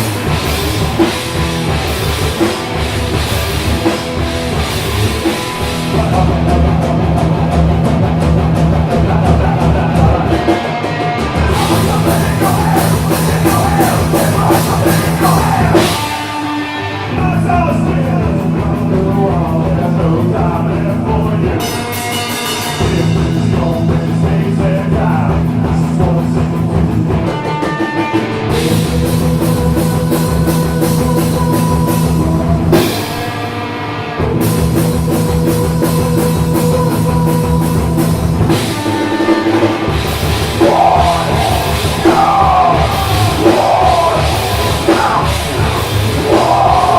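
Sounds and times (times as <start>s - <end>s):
drum kit: 0.0s - 46.9s
heavy rock band playing: 0.0s - 46.9s.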